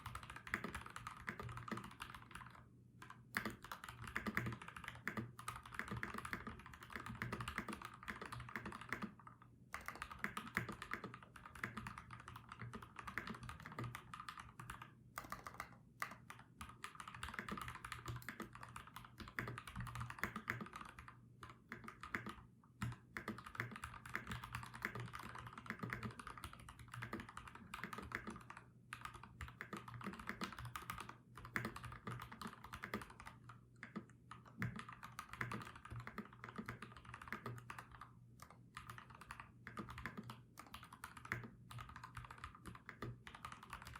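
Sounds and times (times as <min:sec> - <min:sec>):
mechanical keyboard typing: 0:00.0 - 0:43.9.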